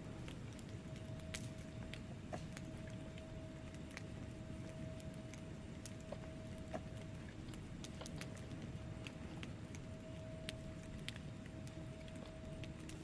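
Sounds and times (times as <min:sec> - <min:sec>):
faint steady hum: 0:00.0 - 0:13.0
low rumble of flames: 0:00.0 - 0:13.0
wood fire crackling: 0:00.0 - 0:13.0.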